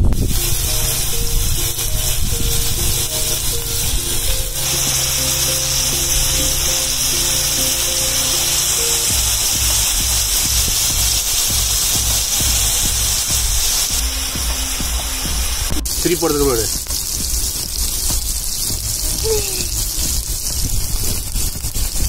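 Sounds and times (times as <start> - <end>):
background music: 0.0 - 22.0
chicken sizzling in oil: 0.0 - 22.0.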